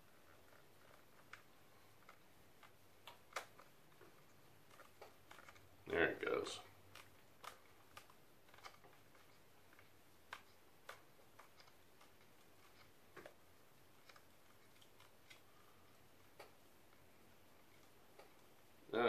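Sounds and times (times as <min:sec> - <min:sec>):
faint plastic clicks: 0:00.0 - 0:18.7.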